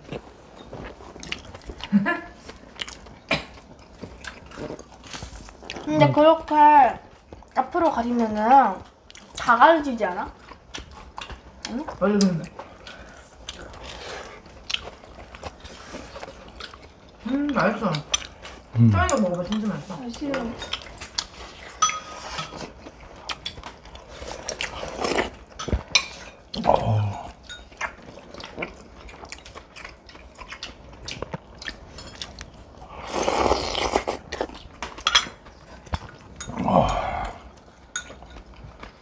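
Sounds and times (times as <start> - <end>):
chewing and biting food: 0.0 - 5.9, 10.3 - 36.6.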